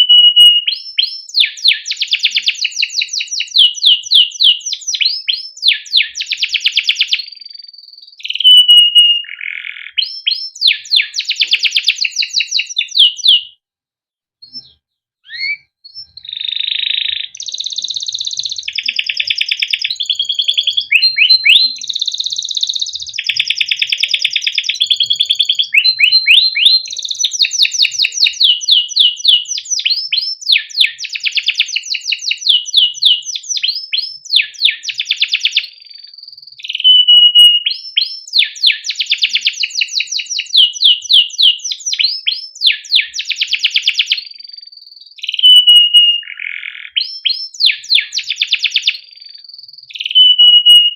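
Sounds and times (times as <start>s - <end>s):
canary singing: 0.0s - 13.6s, 14.4s - 50.9s.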